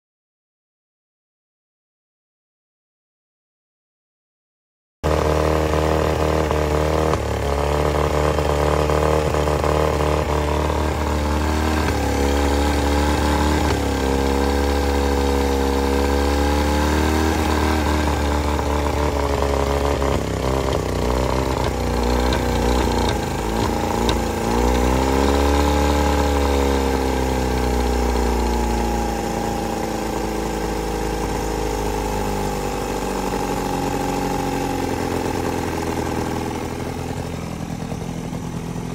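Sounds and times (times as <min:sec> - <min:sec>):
outboard motor running: 0:06.7 - 0:38.9.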